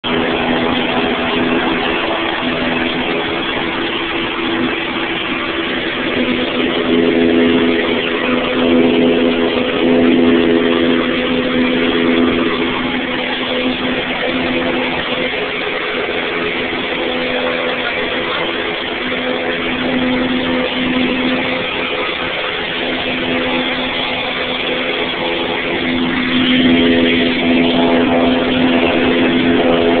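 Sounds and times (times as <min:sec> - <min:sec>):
propeller aircraft cabin drone: 0:00.0 - 0:30.0.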